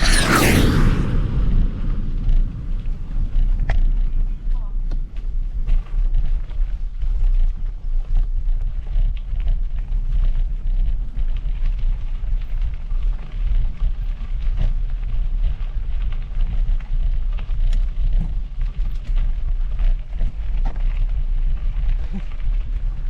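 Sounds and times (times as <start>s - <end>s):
wind and tyres rolling on trail: 1.2s - 23.0s.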